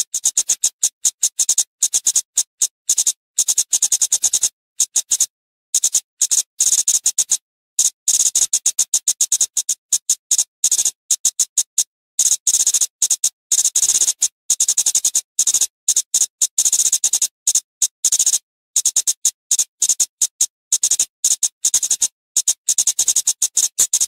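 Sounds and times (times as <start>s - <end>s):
bird ticking calls: 0.0s - 24.0s.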